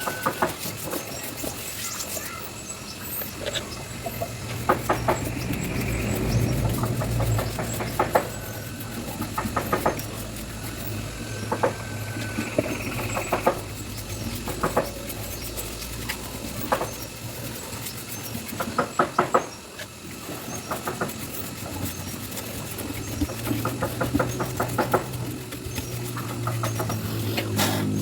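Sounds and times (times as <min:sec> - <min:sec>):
carving tools tapping wood: 0:00.0 - 0:28.0
steady low hum: 0:00.0 - 0:28.0.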